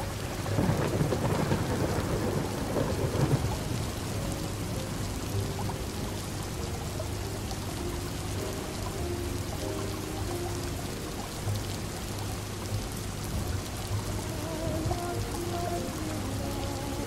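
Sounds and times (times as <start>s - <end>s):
distant thunder rumble: 0.0s - 17.0s
rain pattering: 0.0s - 17.0s.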